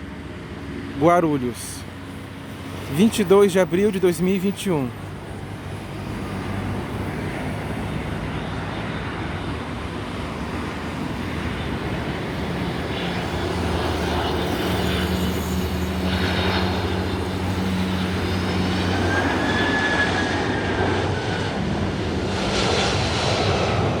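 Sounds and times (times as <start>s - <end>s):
jet engines of approaching aircraft: 0.0s - 24.0s.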